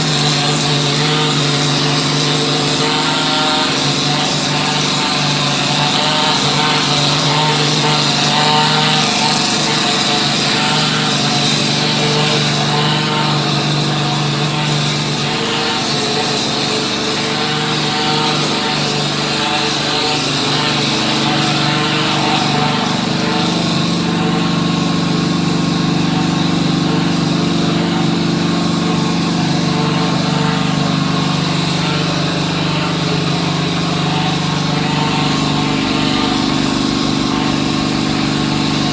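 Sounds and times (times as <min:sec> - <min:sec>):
plastering machine motor running: 0:00.0 - 0:38.9.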